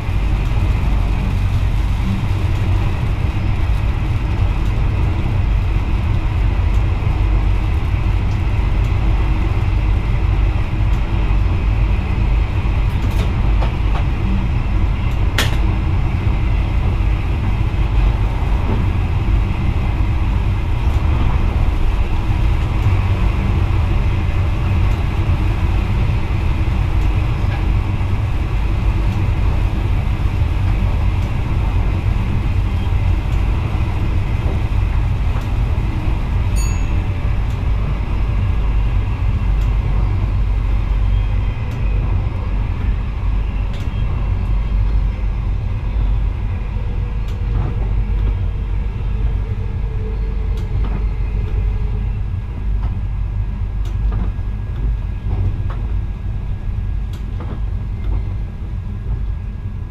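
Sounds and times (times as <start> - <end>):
electric train rumble: 0.0 - 59.9.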